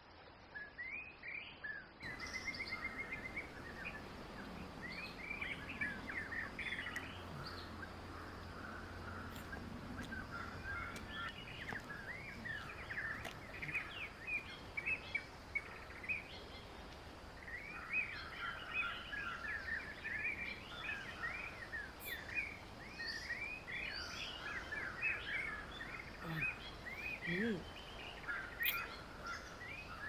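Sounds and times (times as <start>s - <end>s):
background hiss: 0.0s - 30.0s
small birds chirping: 0.2s - 30.0s.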